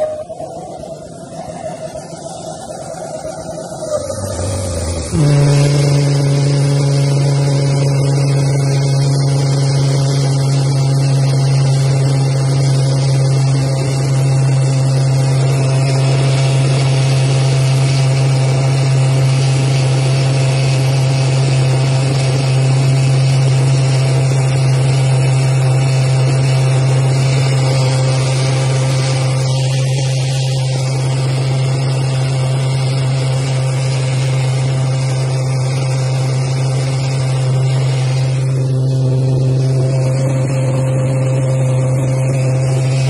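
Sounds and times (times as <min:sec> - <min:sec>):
pulse jet engine drone: 0:00.0 - 0:43.0.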